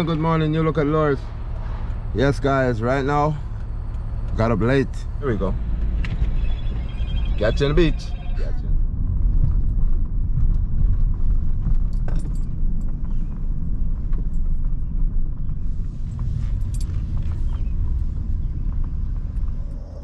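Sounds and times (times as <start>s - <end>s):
road and tyre rumble: 0.0s - 20.0s.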